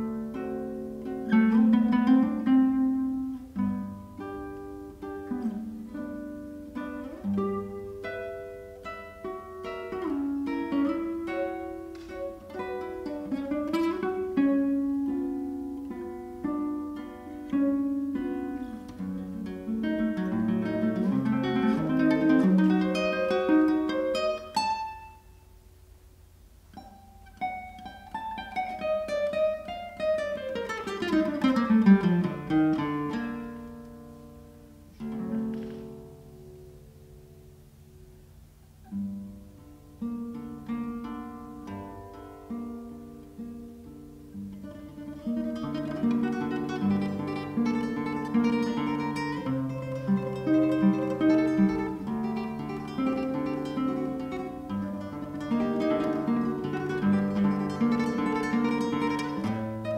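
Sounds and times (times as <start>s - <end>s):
classical guitar playing: 0.0s - 59.9s.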